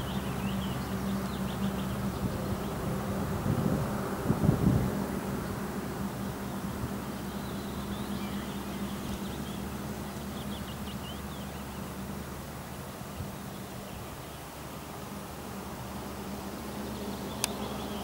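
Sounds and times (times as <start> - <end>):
small birds chirping: 0.0 - 3.1, 4.6 - 18.0
distant electric train rumble: 0.0 - 18.0.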